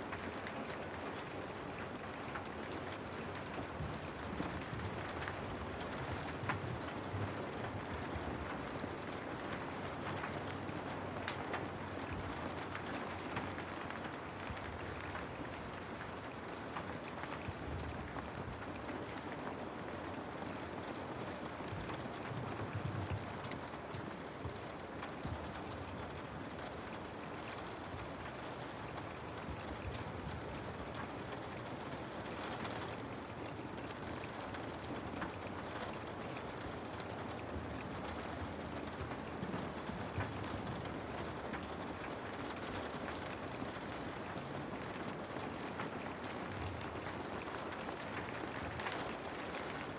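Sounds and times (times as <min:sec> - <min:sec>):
rain drops ticking on window: 0:00.0 - 0:49.9.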